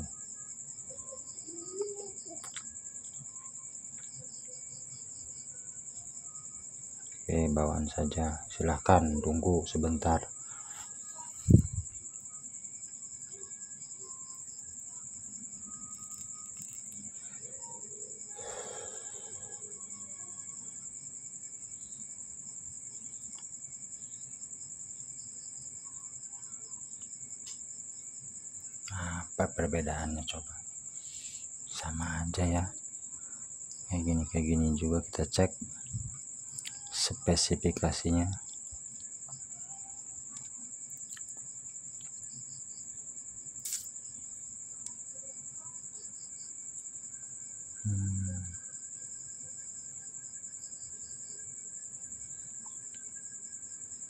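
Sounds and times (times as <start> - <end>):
crickets chirping: 0.0 - 54.0
insect trilling: 0.0 - 54.0.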